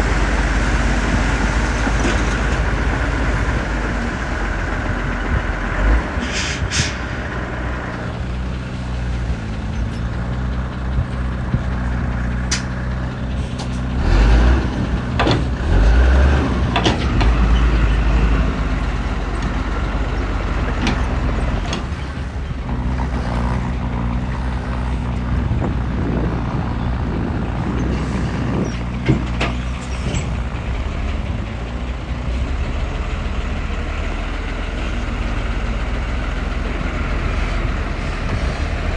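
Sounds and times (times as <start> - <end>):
diesel machinery rumbling: 0.0 - 38.9.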